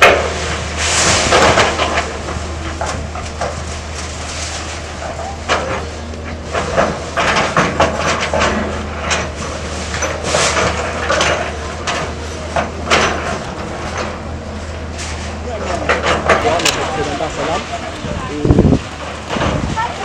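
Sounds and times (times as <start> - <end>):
crashes of falling debris: 0.0 - 20.0
excavator engine hum: 0.0 - 20.0.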